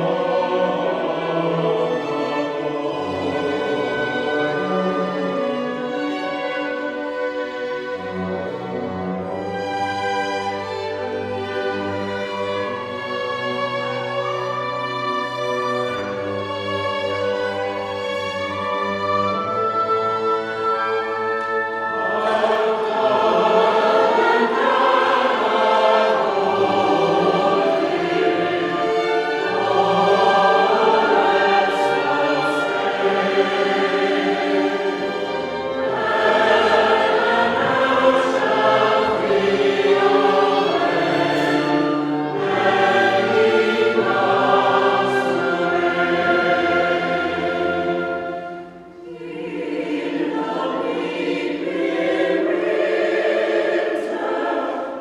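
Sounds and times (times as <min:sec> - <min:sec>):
choir singing: 0:00.0 - 0:55.0
instrumental accompaniment: 0:00.0 - 0:55.0.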